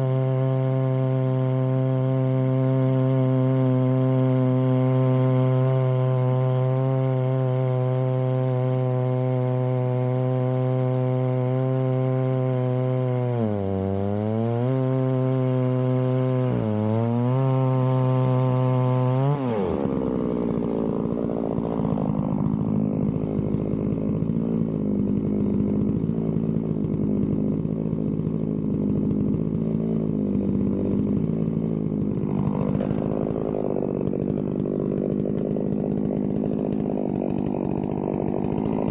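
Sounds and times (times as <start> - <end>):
two-stroke chainsaw running: 0.0 - 38.9.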